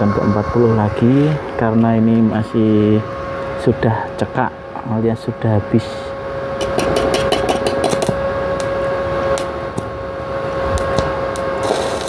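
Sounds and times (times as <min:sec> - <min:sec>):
welding machine humming: 0:00.0 - 0:04.9, 0:05.5 - 0:12.0.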